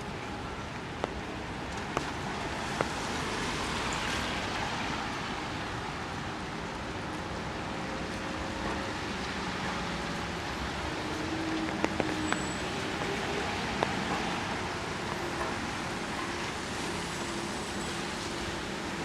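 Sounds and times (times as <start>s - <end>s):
rain on a wet street: 0.0s - 19.0s.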